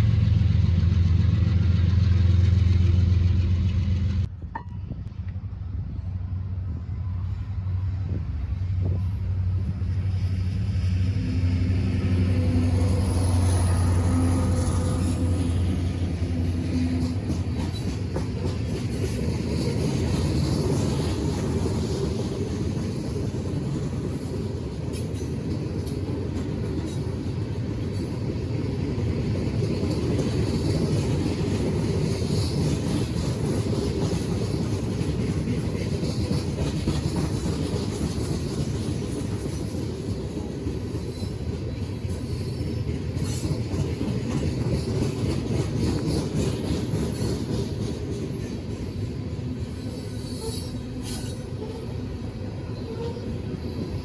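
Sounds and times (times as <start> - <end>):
train rumbling over track: 0.0 - 54.0.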